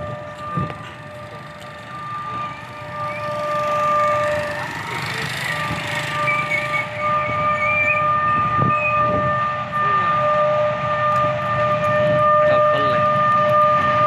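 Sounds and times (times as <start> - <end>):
locomotive air horn blast: 0.0 - 14.0.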